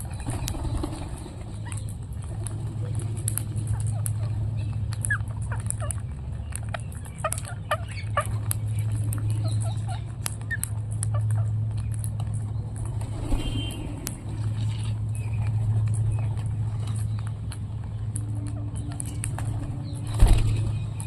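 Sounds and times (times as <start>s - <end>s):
parrots chirping and squawking: 0.0s - 21.0s.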